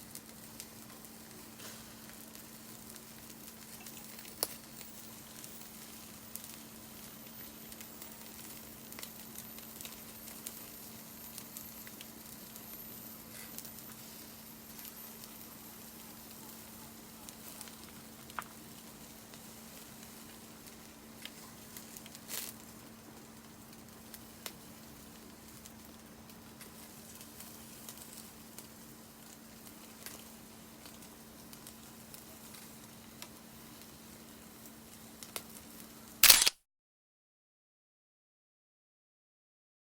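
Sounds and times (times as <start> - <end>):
fire popping and crackling: 0.0 - 35.8
food sizzling over campfire: 0.0 - 36.4.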